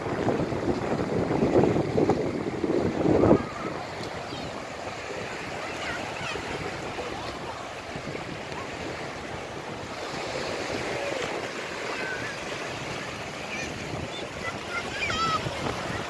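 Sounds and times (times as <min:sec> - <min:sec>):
small waves lapping on sand: 0:00.0 - 0:16.0.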